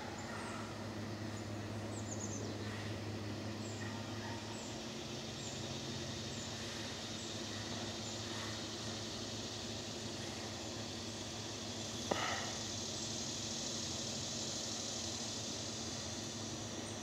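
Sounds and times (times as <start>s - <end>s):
even hiss: 0.0s - 17.0s
steady low hum: 0.0s - 17.0s.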